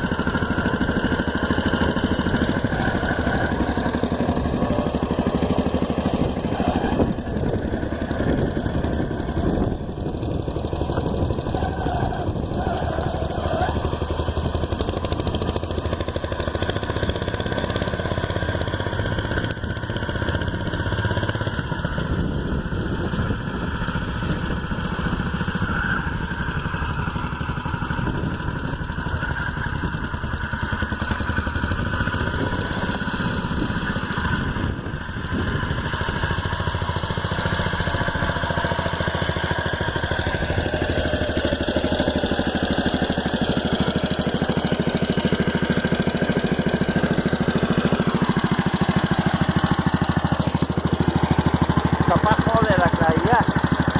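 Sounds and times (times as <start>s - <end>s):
small tractor engine running: 0.0s - 53.9s.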